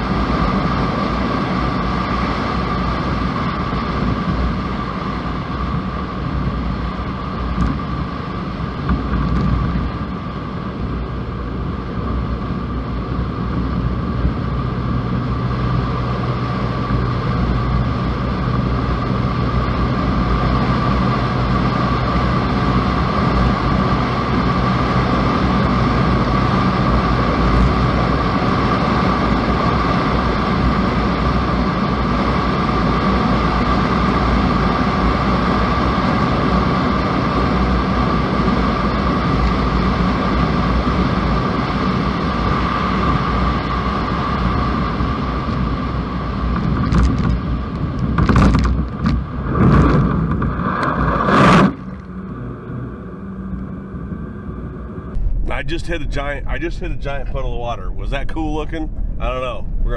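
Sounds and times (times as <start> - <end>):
constant high whine: 0.0 - 59.9
lower engine hum: 0.0 - 59.9
truck engine and tyres rumbling: 0.0 - 59.9.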